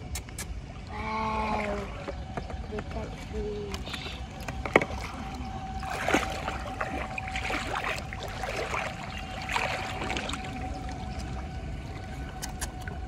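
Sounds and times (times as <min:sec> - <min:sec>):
shallow water splashing: 0:00.6 - 0:13.0.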